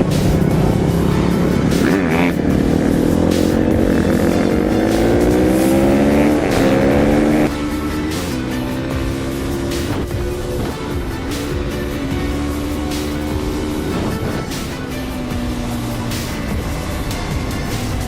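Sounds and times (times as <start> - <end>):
vehicle engine revving under load: 0.0 - 18.0.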